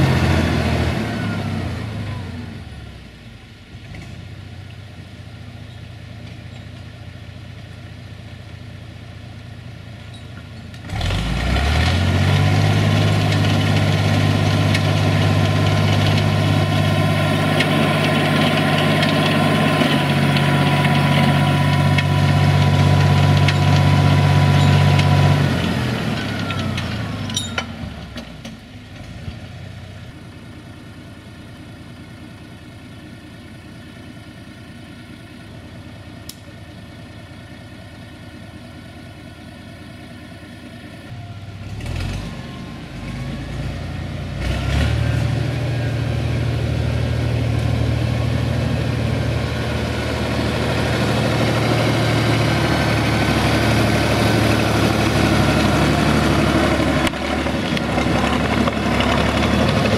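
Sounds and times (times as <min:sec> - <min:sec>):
tractor diesel engine revving: 0:00.0 - 0:03.1, 0:10.7 - 0:59.9.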